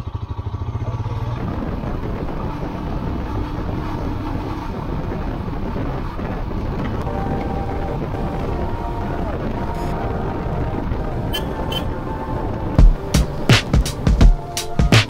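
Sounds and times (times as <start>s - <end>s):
motorcycle engine running: 0.0s - 15.0s
wind on microphone: 1.0s - 15.0s.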